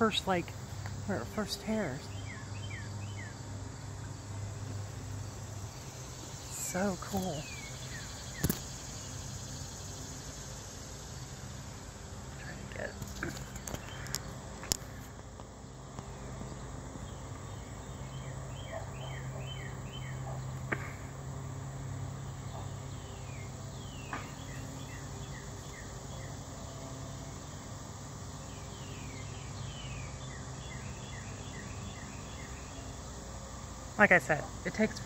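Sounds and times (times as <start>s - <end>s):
insects chirping: 0.0s - 35.0s
steady low hum: 0.0s - 35.0s.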